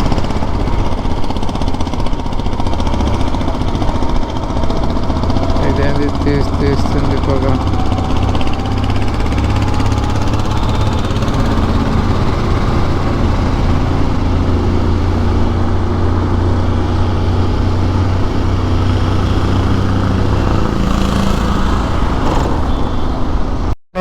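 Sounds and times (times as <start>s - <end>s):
motorcycle engine running: 0.0s - 24.0s
road and wind noise: 0.0s - 24.0s.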